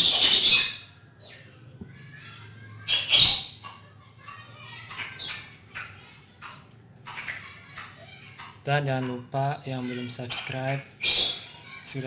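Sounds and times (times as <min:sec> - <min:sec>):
bird harsh squawks: 0:00.0 - 0:01.4, 0:02.0 - 0:11.8.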